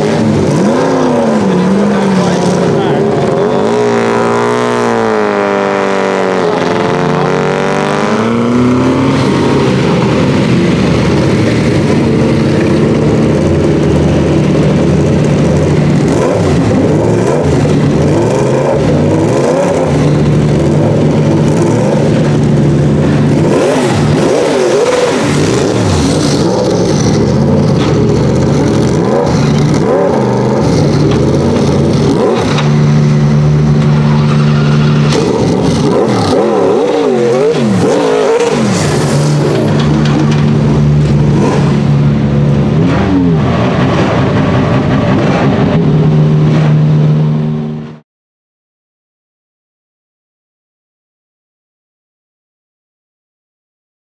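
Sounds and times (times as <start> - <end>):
race car engine at low revs: 0.0 - 48.0.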